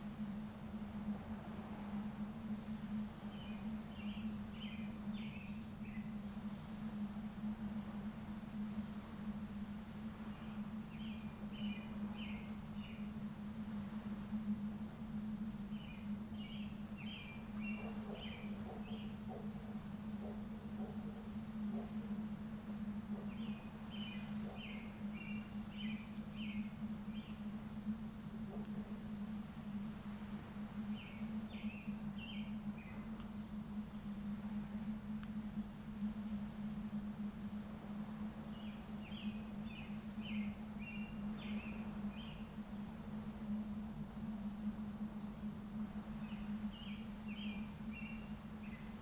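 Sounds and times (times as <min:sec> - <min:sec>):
background hiss: 0:00.0 - 0:49.0
outdoor ambience: 0:00.0 - 0:49.0
songbird singing: 0:00.0 - 0:49.0
steady low hum: 0:00.0 - 0:49.0.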